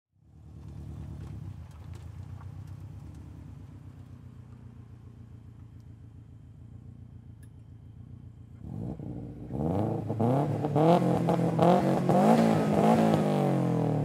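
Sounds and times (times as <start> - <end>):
car engine idling: 0.2 - 14.0.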